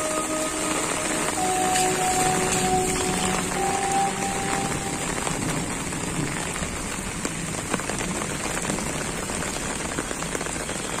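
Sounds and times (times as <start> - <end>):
rain drops splatting: 0.0 - 11.0
rain falling on asphalt: 0.0 - 11.0.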